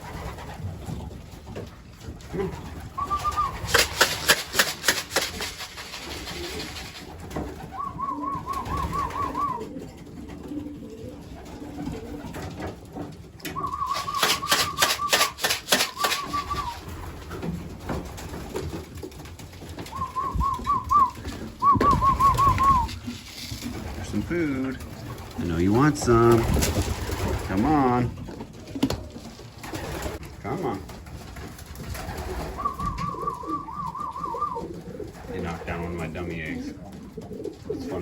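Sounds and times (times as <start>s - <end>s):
pigeon wings flapping: 0.0s - 38.0s
pigeons cooing: 0.0s - 38.0s.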